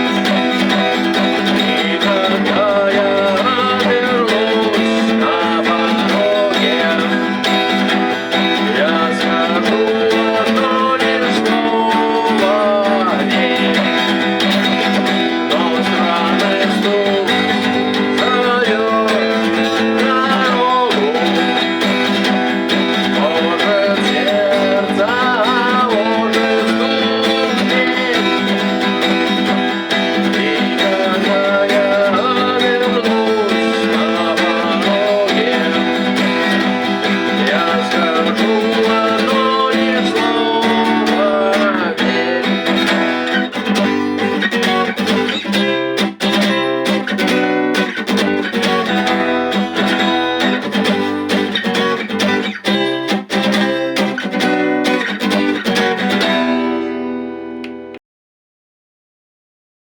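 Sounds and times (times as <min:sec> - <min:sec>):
rock music with strummed guitars: 0:00.0 - 0:58.0.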